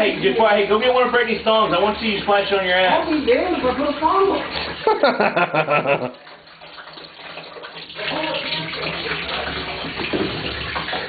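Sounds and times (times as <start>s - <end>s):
beer pouring into bathtub: 0.0s - 11.0s.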